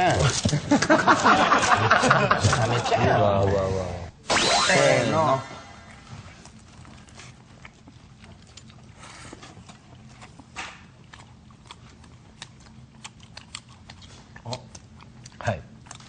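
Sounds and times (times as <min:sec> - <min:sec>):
people chewing food: 0:00.0 - 0:03.3, 0:05.9 - 0:16.0.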